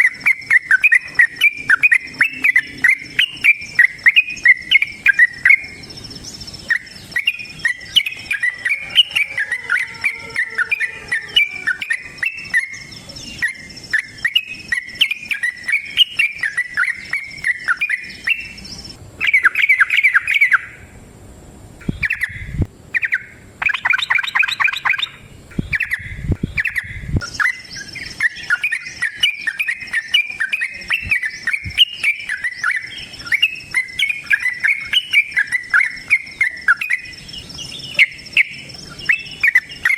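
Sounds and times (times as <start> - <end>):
bird singing bubbly chirps: 0.0 - 20.9, 21.8 - 39.9
faint high-pitched whine: 0.0 - 39.9.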